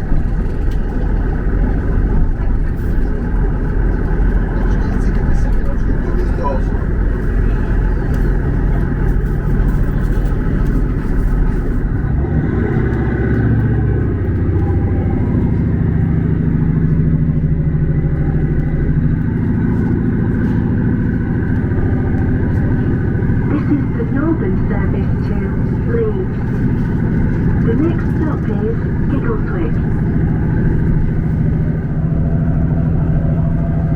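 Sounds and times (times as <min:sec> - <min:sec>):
vehicle engine running: 0:00.0 - 0:33.9.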